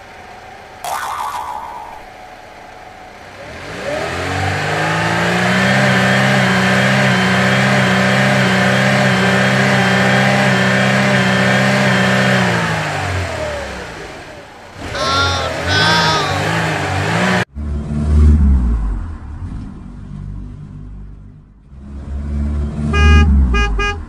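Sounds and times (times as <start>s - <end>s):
engine revving: 3.3s - 24.0s.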